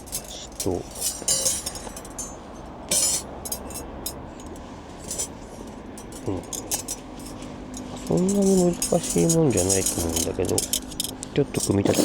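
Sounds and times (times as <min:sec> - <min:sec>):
metal parts clinking and knocking: 0:00.0 - 0:12.0.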